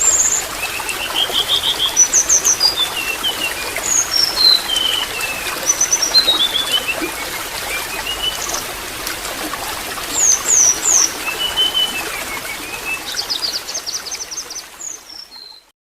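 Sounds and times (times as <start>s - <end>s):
water trickling: 0.0s - 15.6s.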